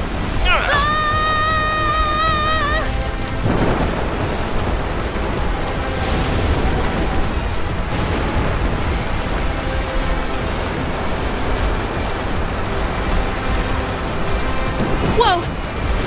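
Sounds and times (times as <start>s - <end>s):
background music: 0.0s - 16.0s
rain-like noise: 0.0s - 16.0s
thunder rumbling: 0.0s - 16.0s.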